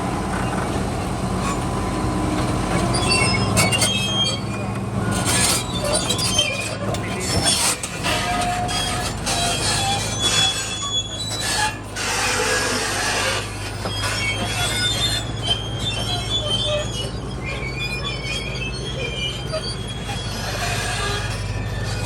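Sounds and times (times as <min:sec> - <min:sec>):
heavy machine engine droning: 0:00.0 - 0:22.0
steel tracks squealing: 0:00.0 - 0:22.0.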